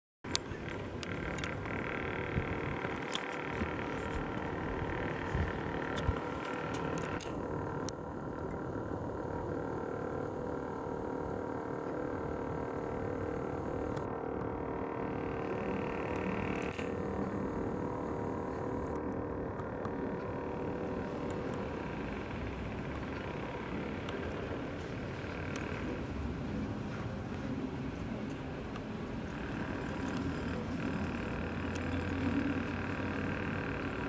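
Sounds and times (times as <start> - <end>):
camera zoom motor whirring: 0.3 - 34.0.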